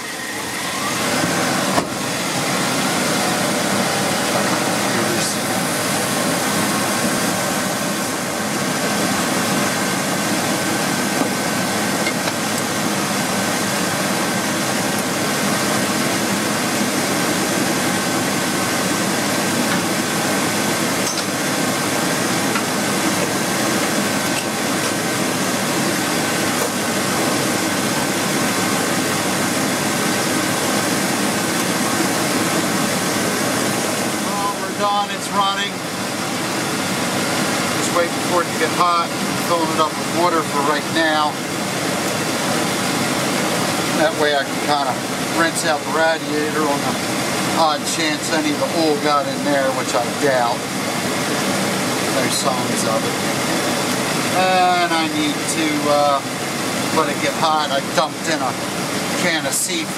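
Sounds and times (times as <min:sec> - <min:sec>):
truck engine idling: 0:00.0 - 0:59.7.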